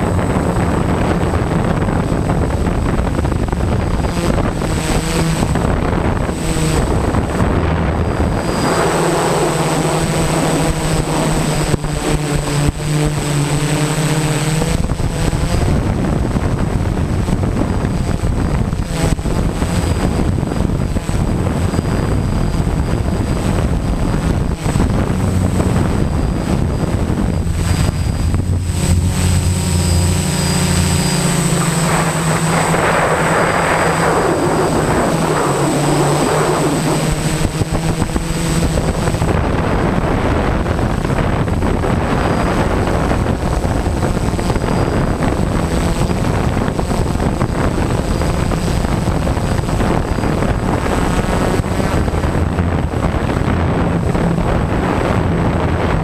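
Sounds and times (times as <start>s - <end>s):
drone propellers buzzing: 0.0s - 56.0s
thin high whine: 0.0s - 56.0s.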